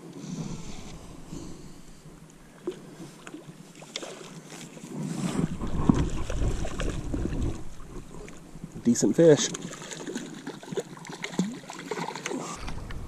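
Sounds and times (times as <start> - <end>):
water splashing: 0.5 - 13.0.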